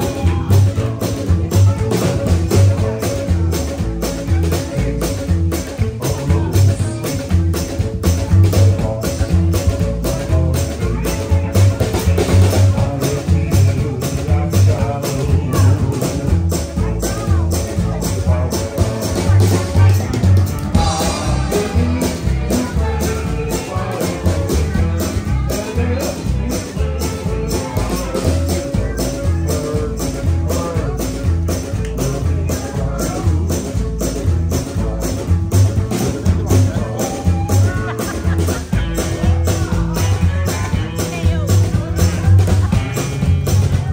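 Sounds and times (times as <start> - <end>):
bass line: 0.0 - 43.9
crowd voices: 0.0 - 43.9
drum kit beat: 0.0 - 43.9
electric guitar: 0.0 - 43.9.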